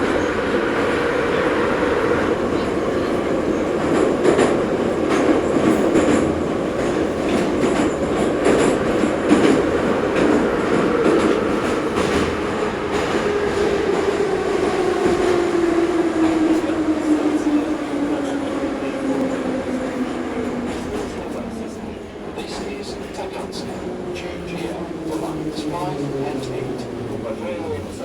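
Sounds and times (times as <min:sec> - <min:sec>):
metro train rumble: 0:00.0 - 0:28.0.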